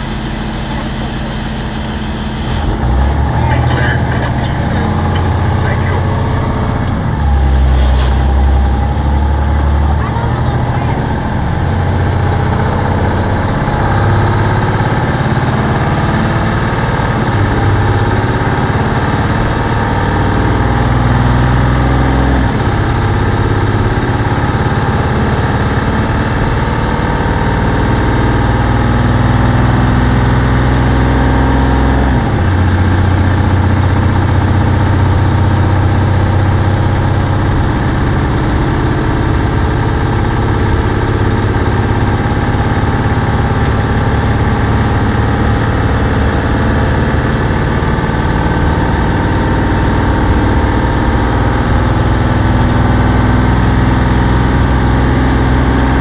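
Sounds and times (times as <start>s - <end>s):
bus engine running: 0.0s - 56.0s.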